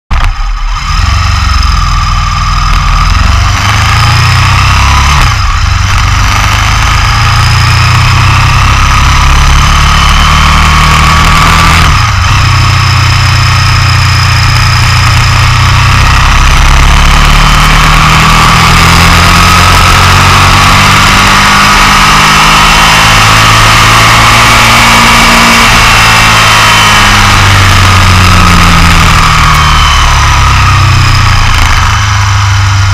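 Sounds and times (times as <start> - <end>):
motorcycle engine running hard: 0.1 - 32.9.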